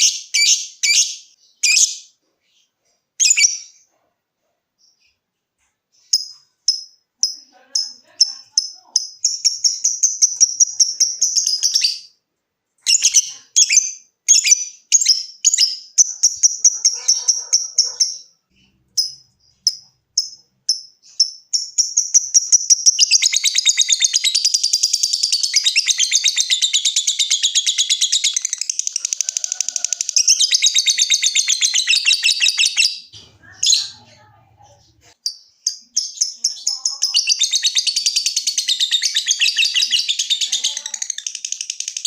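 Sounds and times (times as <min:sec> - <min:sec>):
bird chattering trill: 0:06.0 - 0:12.1, 0:12.8 - 0:42.0
lovebird calling: 0:06.0 - 0:12.2, 0:12.8 - 0:41.4.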